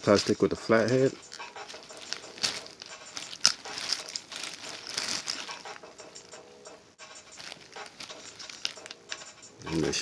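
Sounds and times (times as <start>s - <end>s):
plastic crinkling: 0.0s - 6.4s, 7.0s - 9.3s.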